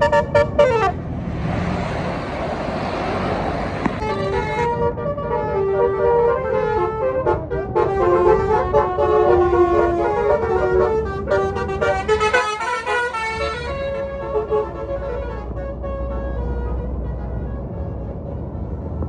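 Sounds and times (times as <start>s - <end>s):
musical bus horn melody: 0.0s - 1.0s, 4.0s - 18.7s
low engine rumble: 0.0s - 19.0s.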